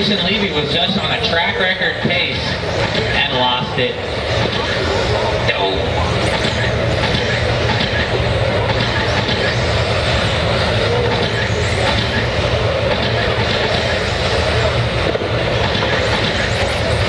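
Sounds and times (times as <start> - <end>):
electric toy trucks racing: 0.0 - 17.0
whirring motors gears and tyres: 0.0 - 17.0.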